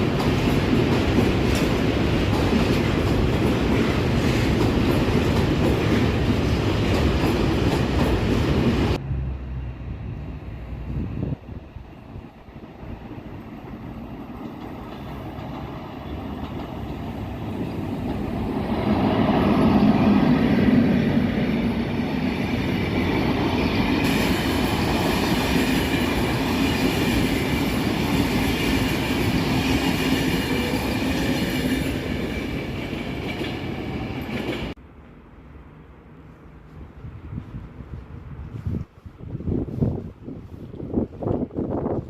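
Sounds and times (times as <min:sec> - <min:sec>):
train passing close by: 0:00.0 - 0:42.0.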